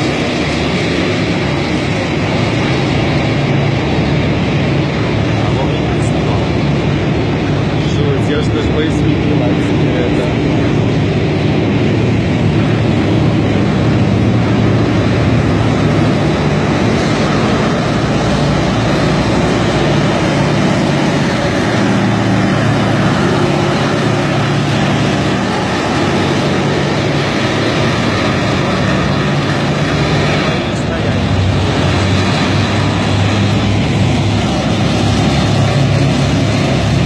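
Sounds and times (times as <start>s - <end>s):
tank engine running: 0.0s - 37.0s.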